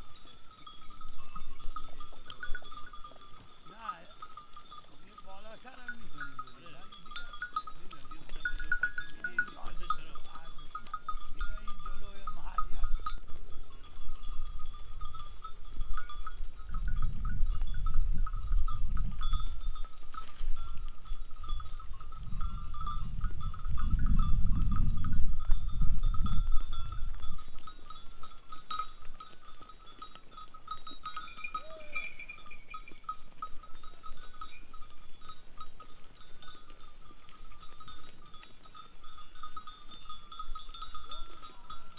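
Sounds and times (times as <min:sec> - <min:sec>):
animal bells jingling: 0:00.0 - 0:41.9.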